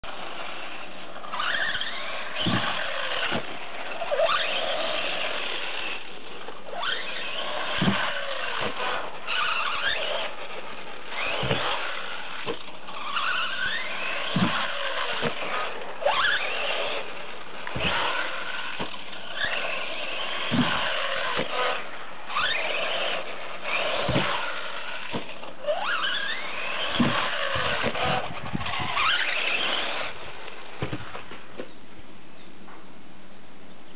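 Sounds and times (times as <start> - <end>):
electric motor whining: 0.0 - 31.4
toy buggy landing thuds: 1.3 - 31.8.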